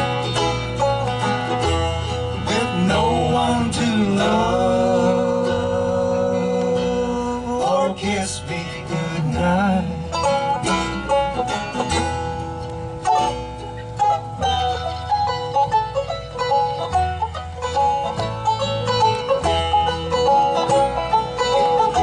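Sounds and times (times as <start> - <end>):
acoustic guitar: 0.0 - 22.0
banjo: 0.0 - 22.0
mandolin: 0.0 - 22.0
upright bass: 0.0 - 22.0.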